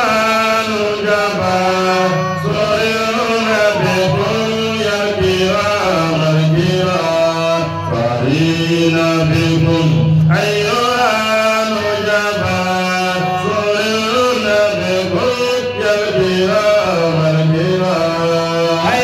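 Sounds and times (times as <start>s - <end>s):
man chanting devotional poem: 0.0s - 19.0s.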